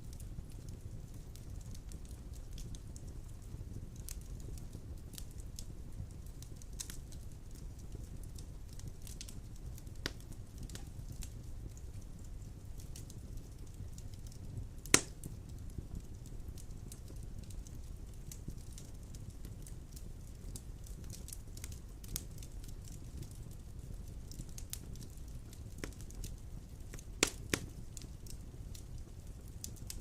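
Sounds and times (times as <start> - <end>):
fire crackling: 0.0 - 30.0
fire flames rumbling: 0.0 - 30.0
sharp fire pops: 0.2 - 30.0.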